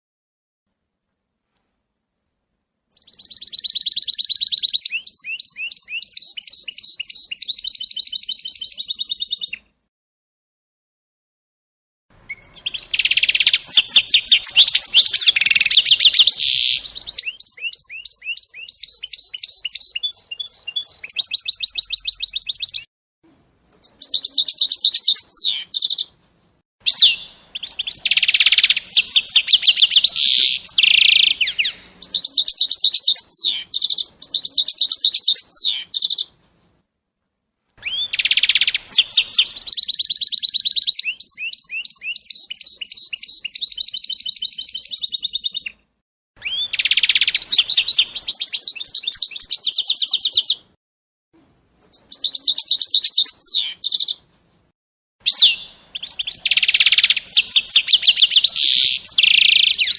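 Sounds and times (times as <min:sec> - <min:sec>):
songbird trilling and chirping: 0:02.9 - 0:09.6, 0:12.3 - 0:22.9, 0:23.7 - 0:26.1, 0:26.9 - 0:36.3, 0:37.8 - 0:45.8, 0:46.4 - 0:50.6, 0:51.8 - 0:54.2, 0:55.2 - 0:59.9.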